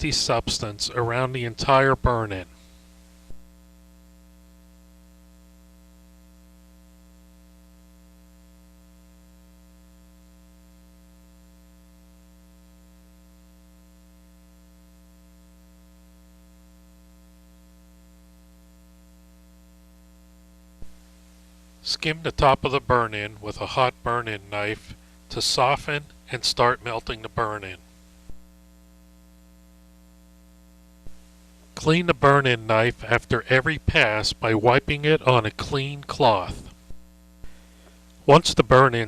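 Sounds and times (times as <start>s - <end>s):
electrical hum with hiss: 0.0s - 39.0s.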